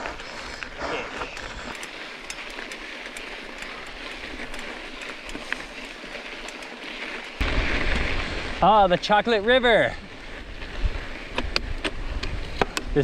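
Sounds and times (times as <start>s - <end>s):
bike rattling: 0.0s - 13.0s
bike tyres crunching on gravel: 0.0s - 13.0s.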